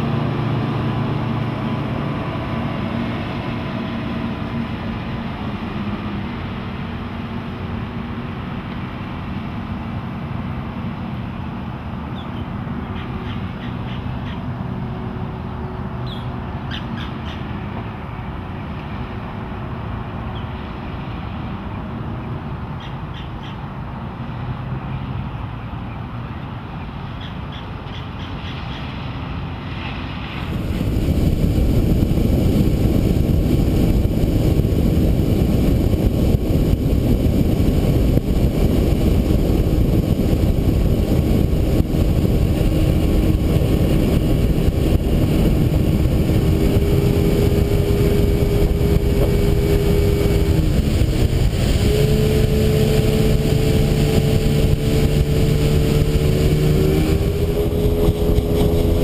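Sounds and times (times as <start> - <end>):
outboard engine droning: 0.0 - 59.0
wind and water rushing: 0.0 - 59.0.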